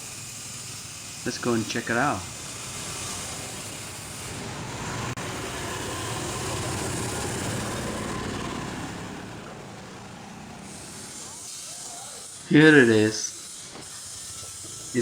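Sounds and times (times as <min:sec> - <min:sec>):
motor vehicle passing: 0:01.4 - 0:15.0.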